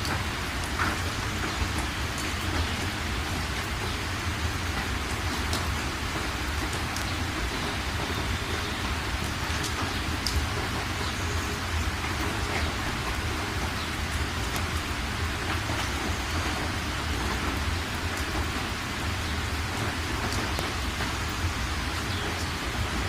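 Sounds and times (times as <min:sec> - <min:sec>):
heavy rain: 0:00.0 - 0:23.0
raindrops ticking close by: 0:00.0 - 0:23.0.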